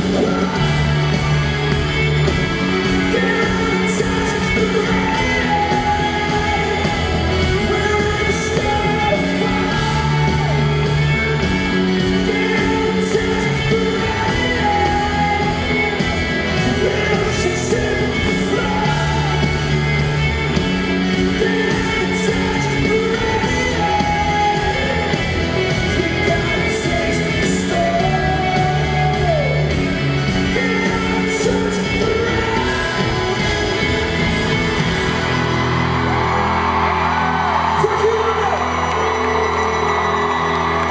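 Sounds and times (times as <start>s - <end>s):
man singing lead vocal: 0.0s - 35.3s, 37.7s - 40.9s
electric guitar: 0.0s - 40.9s
pop-rock band playing live: 0.0s - 40.9s.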